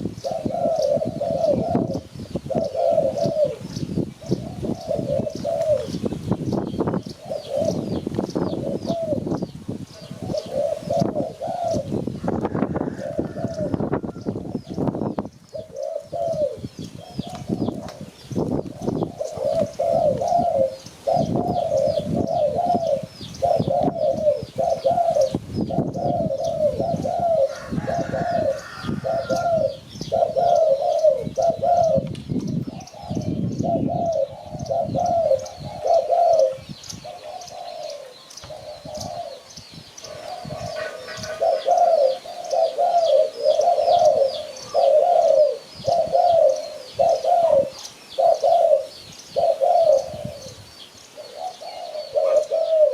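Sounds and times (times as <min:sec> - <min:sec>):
dove cooing: 0:00.0 - 0:52.9
small birds chirping: 0:00.0 - 0:52.9.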